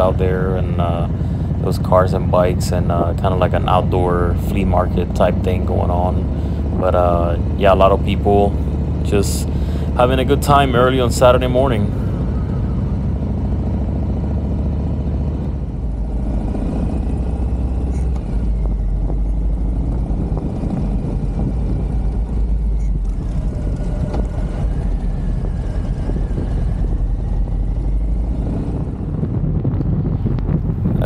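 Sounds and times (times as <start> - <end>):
motorcycle engine drone: 0.0 - 31.0
wind and road noise: 0.0 - 31.0.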